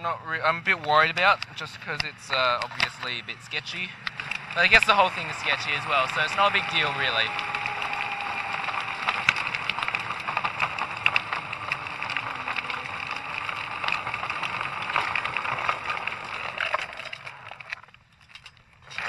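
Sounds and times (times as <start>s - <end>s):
wheels rolling on asphalt: 0.0s - 19.0s
clicks and rattles: 0.8s - 19.0s.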